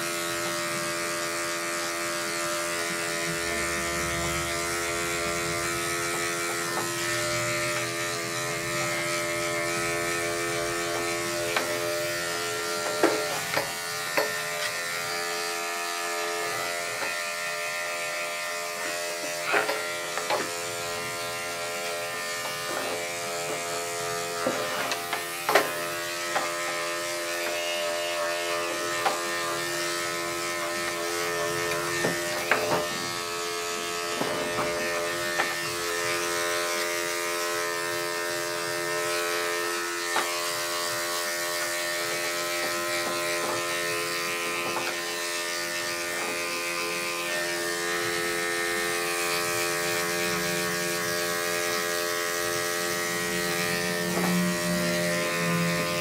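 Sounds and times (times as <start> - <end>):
electric clippers buzzing: 0.0 - 56.0.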